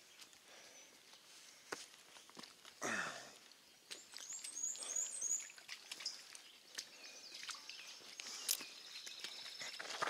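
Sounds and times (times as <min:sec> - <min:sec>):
footsteps on trail: 0:00.0 - 0:04.9, 0:05.5 - 0:10.0
birds chirping: 0:00.0 - 0:10.0.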